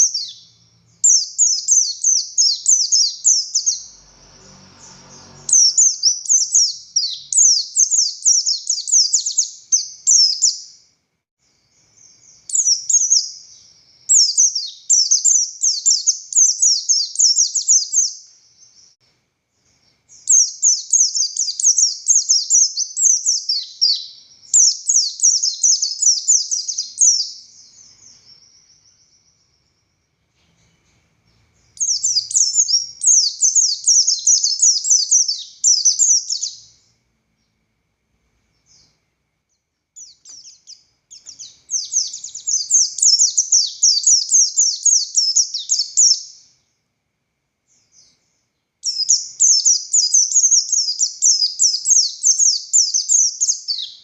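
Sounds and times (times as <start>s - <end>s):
bird warbling song: 0.0s - 37.6s, 38.5s - 46.7s, 47.7s - 54.0s.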